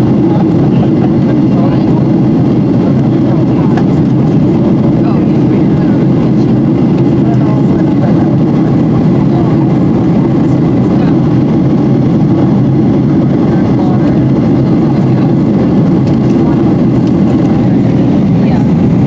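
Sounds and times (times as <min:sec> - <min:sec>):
airplane cabin engine rush: 0:00.0 - 0:19.0.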